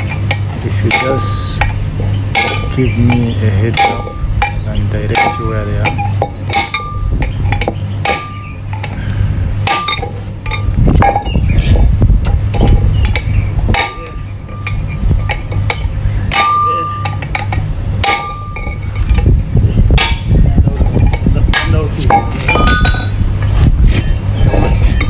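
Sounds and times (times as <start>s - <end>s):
metal parts and tools clinking: 0.0s - 9.0s, 9.7s - 23.2s
steady low hum: 0.0s - 25.0s.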